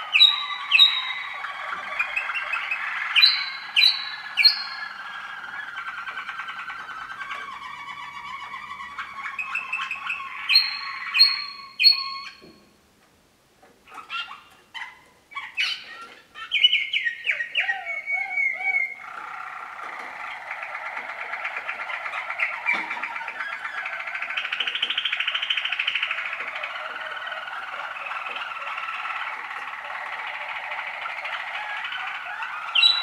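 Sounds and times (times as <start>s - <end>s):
rapid rolling bird trill: 0.0s - 12.4s, 15.5s - 33.0s
canaries singing: 0.0s - 12.8s, 13.8s - 33.0s.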